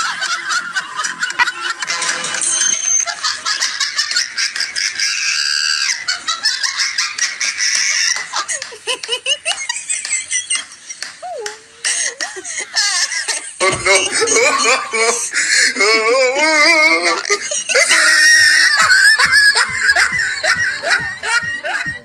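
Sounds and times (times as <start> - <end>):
people laughing: 0.0 - 2.0, 3.0 - 22.0.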